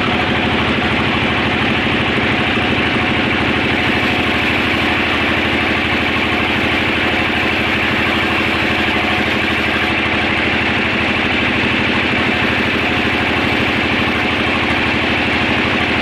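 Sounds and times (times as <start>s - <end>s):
sawmill engine running: 0.0s - 16.0s.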